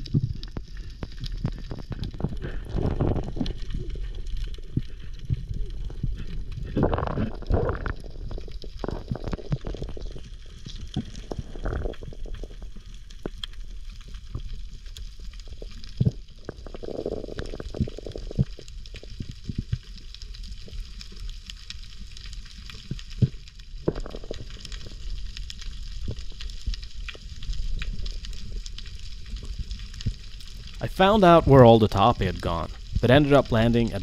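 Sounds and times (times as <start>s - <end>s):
low underwater rumble: 0.0s - 21.2s, 21.8s - 30.8s
muffled water swishes: 0.0s - 31.6s
crackling of snapping shrimp: 0.0s - 34.0s.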